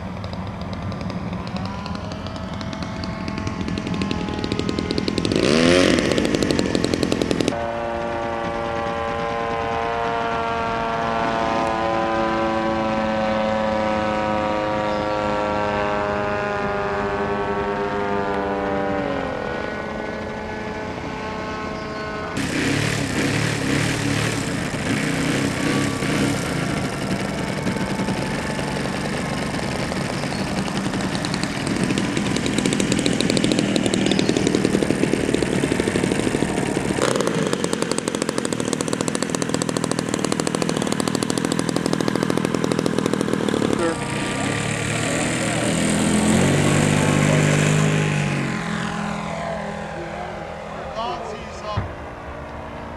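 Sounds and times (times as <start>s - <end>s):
model airplane motor: 0.0s - 50.7s
rough noisy motor: 0.0s - 52.9s.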